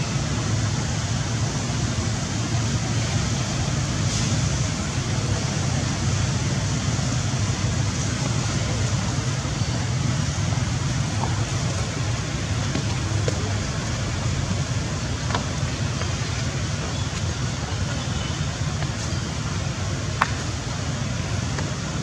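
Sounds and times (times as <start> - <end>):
even hiss: 0.0 - 22.0.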